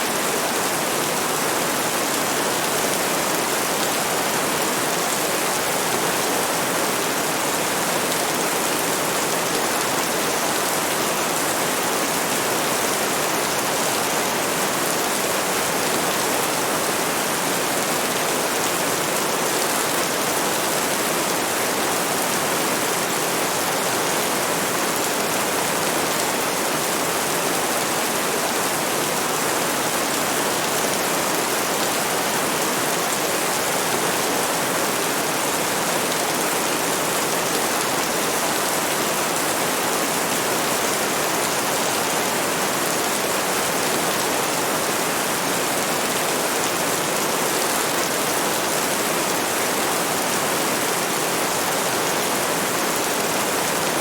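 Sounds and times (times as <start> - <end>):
dense rain falling: 0.0 - 54.0.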